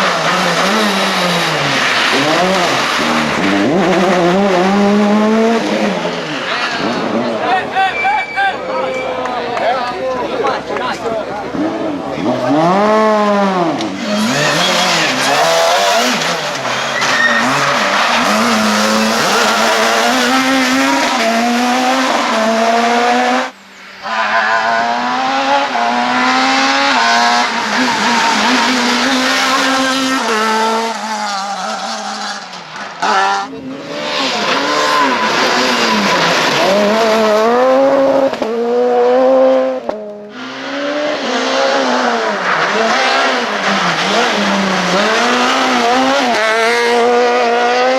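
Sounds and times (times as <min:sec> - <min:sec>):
rally car engines revving high: 0:00.0 - 0:07.7, 0:10.2 - 0:47.9.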